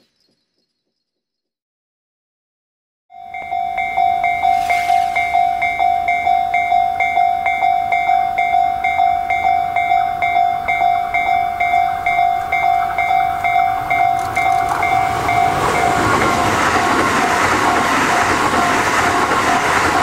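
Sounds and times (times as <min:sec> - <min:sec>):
level crossing warning bell: 0:03.1 - 0:20.0
electric train running: 0:03.3 - 0:20.0.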